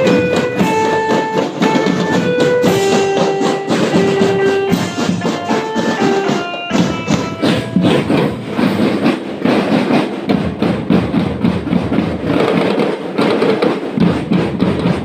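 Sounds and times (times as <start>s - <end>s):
marching drums playing fast beat: 0.0s - 15.0s.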